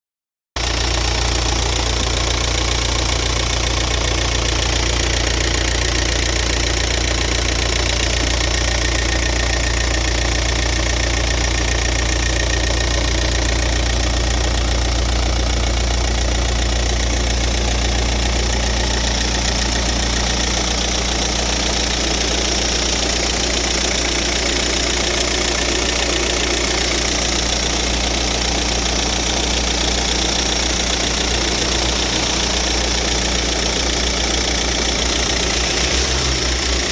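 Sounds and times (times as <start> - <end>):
diesel engine idling: 0.6 - 36.9.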